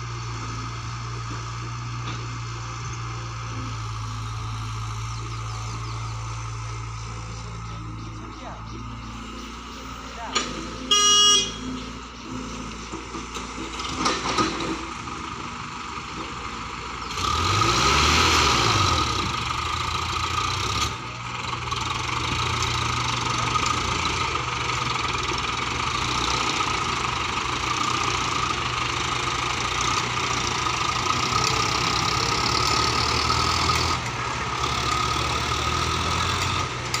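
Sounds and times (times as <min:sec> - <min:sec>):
machinery engine running and revving: 0:00.0 - 0:37.0.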